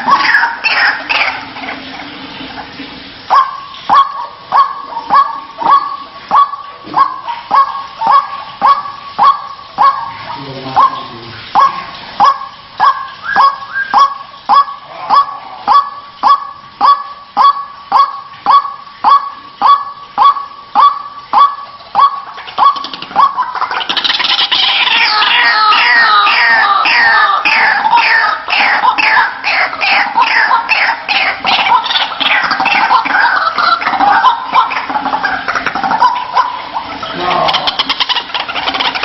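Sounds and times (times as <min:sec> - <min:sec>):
waterhen harsh croaking call: 0:00.0 - 0:39.0.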